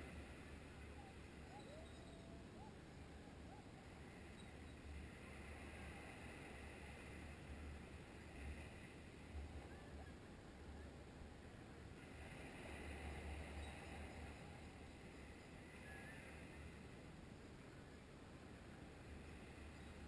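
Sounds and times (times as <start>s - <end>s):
small waves washing on shore: 0.0s - 20.0s
wind rumble on microphone: 0.0s - 20.0s.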